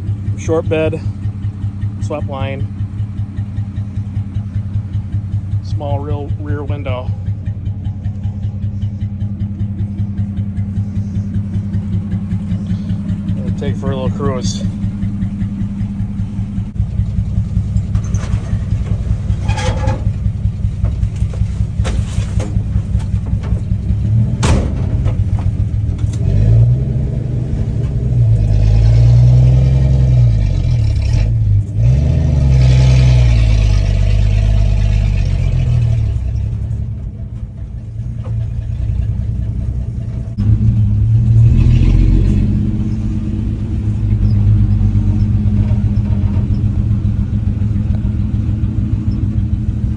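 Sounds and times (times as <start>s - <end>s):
engine knocks: 0.0s - 49.9s
pickup truck engine revving: 0.0s - 49.9s.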